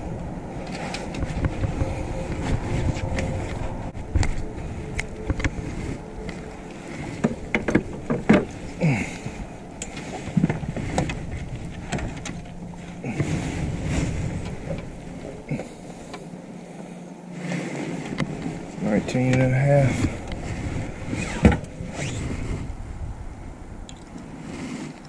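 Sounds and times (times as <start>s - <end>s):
low steady hum: 0.0s - 25.0s
wind on microphone: 0.0s - 25.0s.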